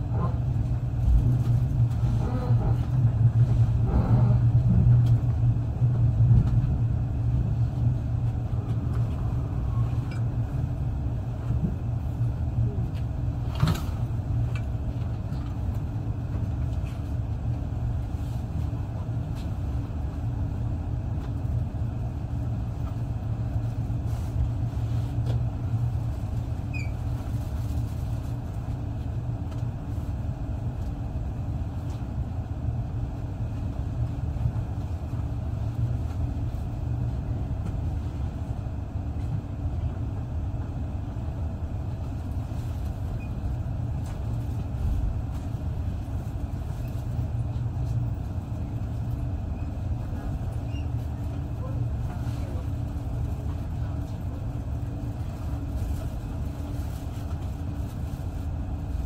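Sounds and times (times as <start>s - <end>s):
train rumble inside carriage: 0.0s - 59.0s.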